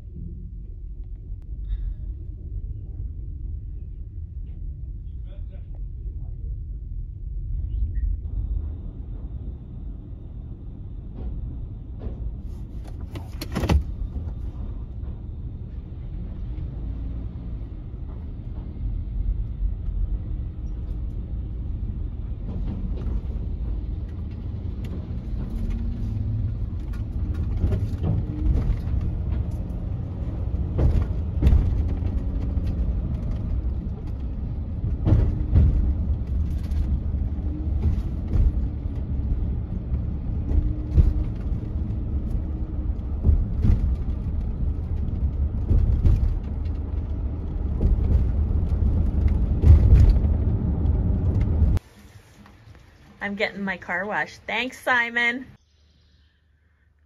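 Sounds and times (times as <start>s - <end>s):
van engine and road rumble: 0.0s - 57.0s.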